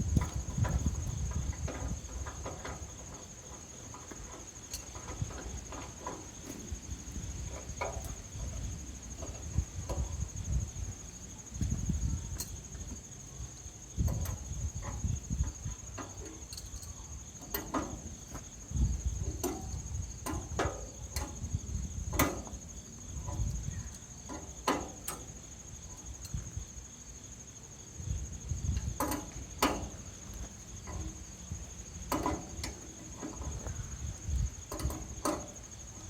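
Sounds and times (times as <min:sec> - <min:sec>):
insect trill: 0:00.0 - 0:36.0.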